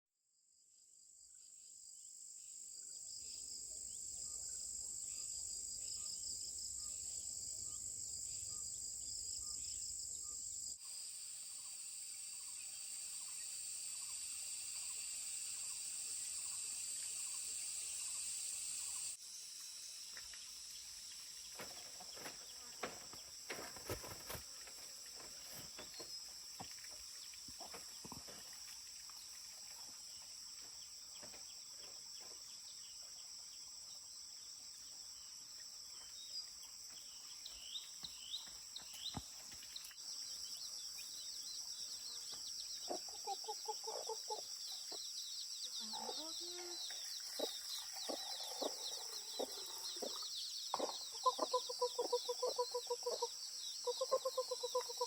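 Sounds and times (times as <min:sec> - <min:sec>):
high-pitched insect chorus: 0:02.5 - 0:55.0.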